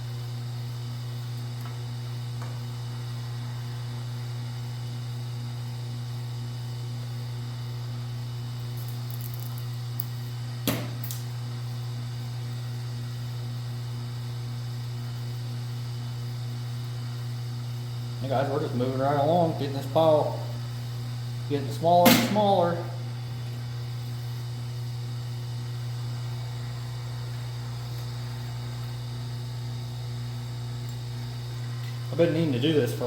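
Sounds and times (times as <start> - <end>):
electrical mains hum: 0.0 - 33.0.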